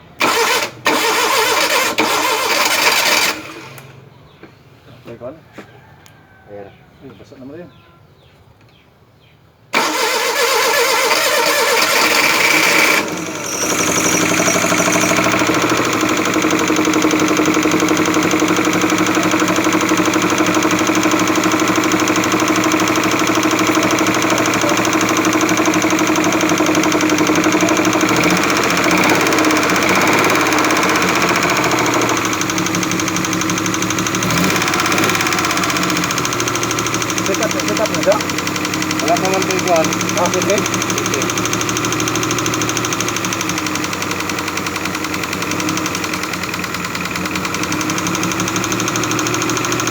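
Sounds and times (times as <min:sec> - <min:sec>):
engine starting and running: 0:00.0 - 0:05.4, 0:09.7 - 0:49.9
engine knocking: 0:00.2 - 0:04.1, 0:09.8 - 0:49.9.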